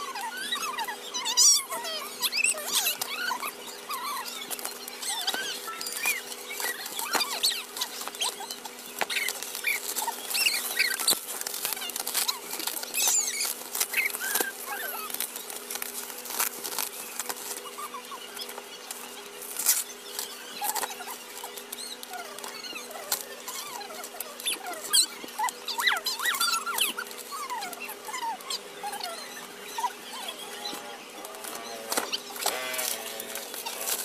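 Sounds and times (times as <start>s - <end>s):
plastic squeaks and clicks: 0.0s - 34.0s
bubble wrap crinkling: 2.3s - 29.0s, 30.7s - 34.0s.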